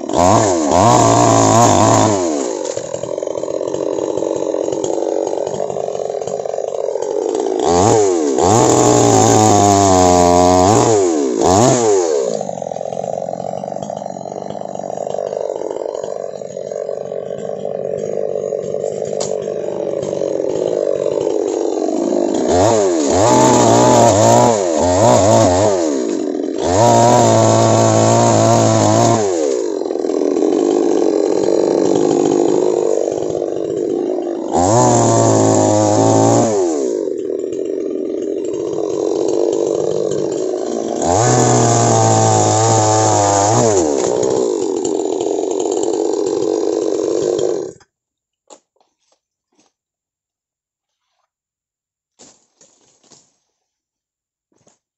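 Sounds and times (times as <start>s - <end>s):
chainsaw idling and revving: 0.0s - 48.9s.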